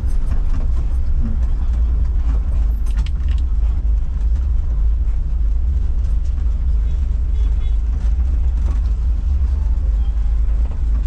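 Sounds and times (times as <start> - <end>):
van engine rumbling: 0.0 - 11.0.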